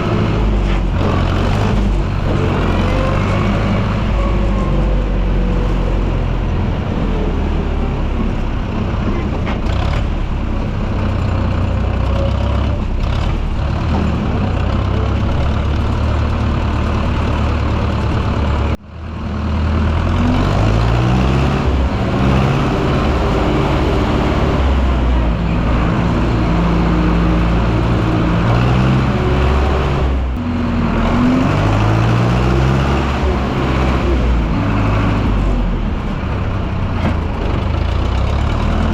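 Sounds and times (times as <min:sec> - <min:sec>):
tractor diesel engine revving: 0:00.0 - 0:38.9.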